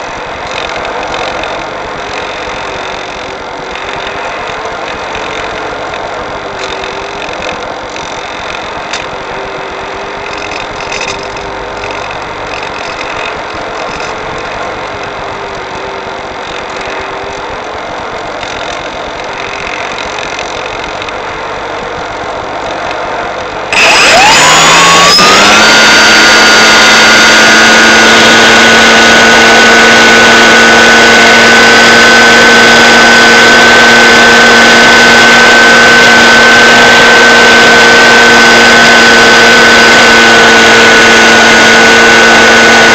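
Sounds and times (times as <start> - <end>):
faint hum: 0.0 - 42.9
motor whine rising in pitch: 0.0 - 42.9.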